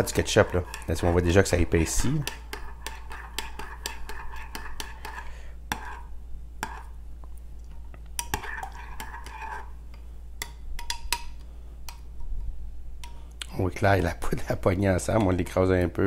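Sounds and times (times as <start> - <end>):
spoon stirring thick sauce: 0.0 - 12.4, 13.0 - 15.9.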